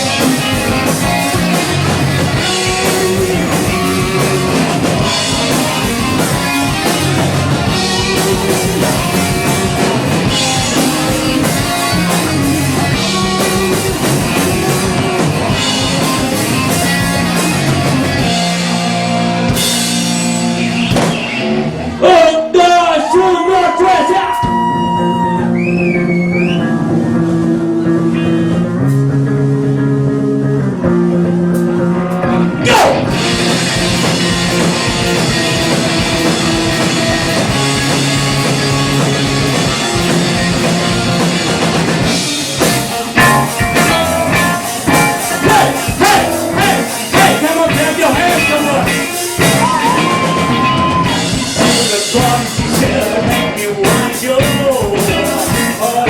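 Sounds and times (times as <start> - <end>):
electric guitar chords: 0.0 - 22.6, 24.4 - 56.0
drums: 0.0 - 56.0
rock band playing live: 0.0 - 56.0.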